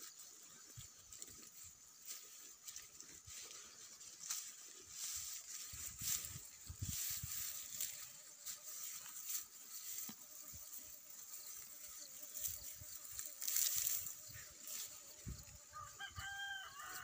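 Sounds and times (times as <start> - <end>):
cow chewing grass: 0.0 - 15.6.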